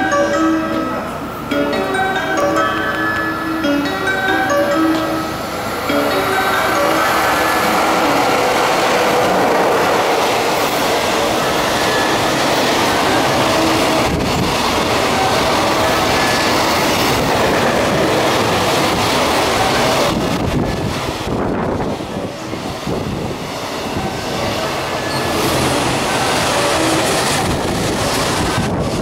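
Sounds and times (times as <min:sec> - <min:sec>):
freight train wheels rushing: 0:00.0 - 0:29.0.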